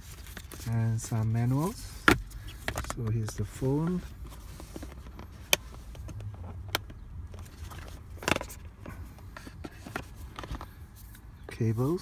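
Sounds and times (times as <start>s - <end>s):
hands handling a box: 0.0s - 12.0s.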